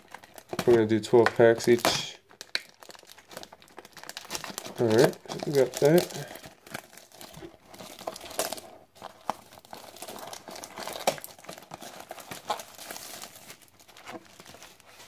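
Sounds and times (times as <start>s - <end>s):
plastic shrink wrap crinkling: 0.0s - 15.0s.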